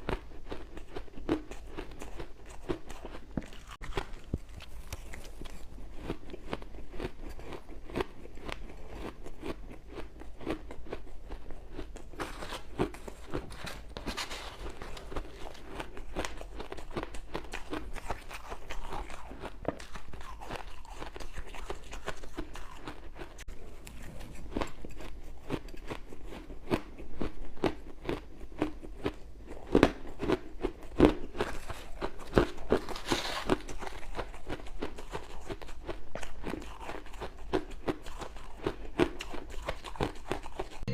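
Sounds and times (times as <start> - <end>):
ice cubes being chewed: 0.1 - 40.9.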